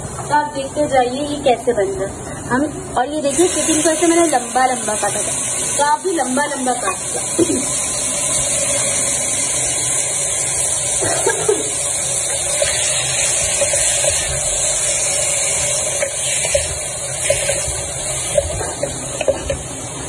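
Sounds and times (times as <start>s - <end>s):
chicken sizzling in hot oil: 3.2s - 20.0s.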